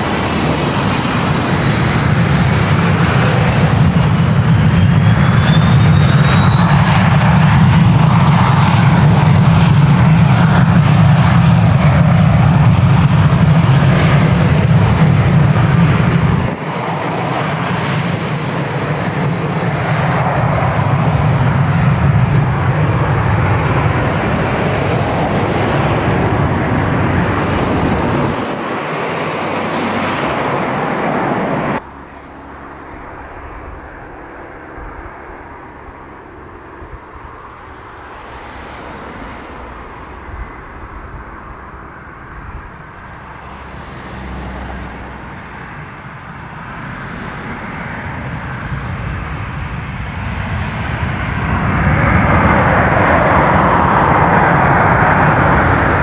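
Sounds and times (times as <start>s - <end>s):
aircraft engines at takeoff: 0.0s - 56.0s
distant engine noise: 0.0s - 56.0s.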